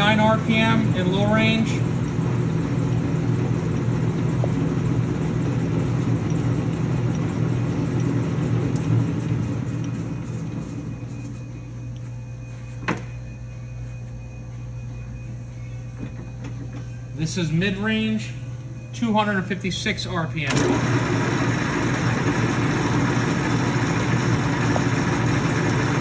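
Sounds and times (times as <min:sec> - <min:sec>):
lathe geared hum: 0:00.0 - 0:12.5, 0:13.4 - 0:26.0
steady motor hum: 0:00.0 - 0:26.0.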